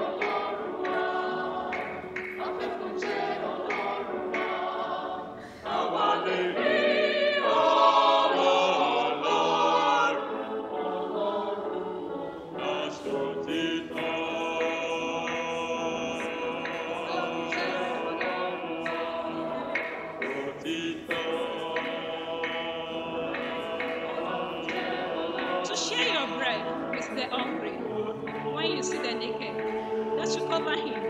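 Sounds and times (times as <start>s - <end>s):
mixed choir singing: 0.0s - 31.0s.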